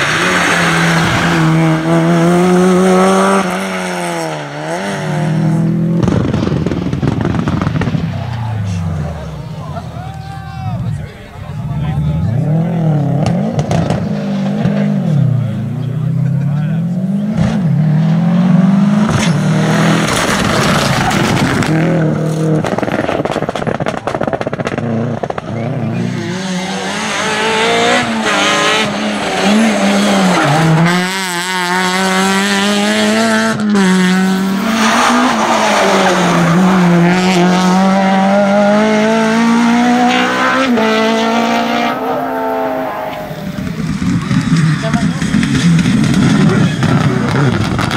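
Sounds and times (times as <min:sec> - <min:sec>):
rally car engines at full throttle: 0:00.0 - 0:47.9.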